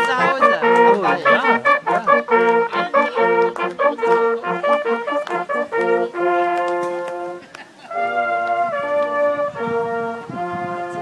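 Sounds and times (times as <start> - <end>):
brass band chords: 0.0 - 11.0.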